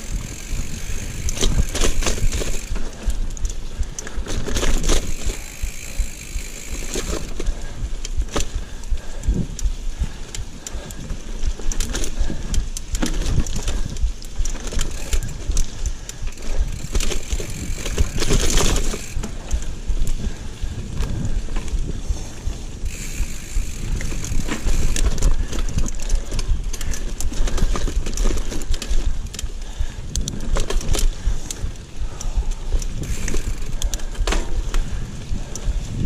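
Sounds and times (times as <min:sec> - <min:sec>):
bike clattering and rattling: 0:00.0 - 0:36.0
bike tyres crunching on dirt: 0:00.0 - 0:36.0.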